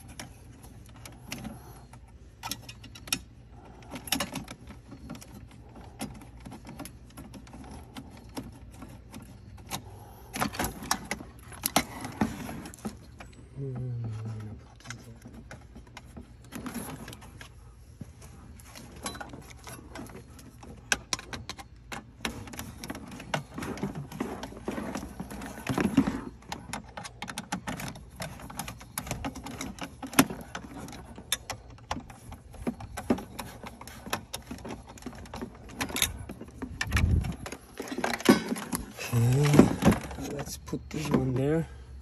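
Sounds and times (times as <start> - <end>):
cables rustling: 0.0 - 42.0.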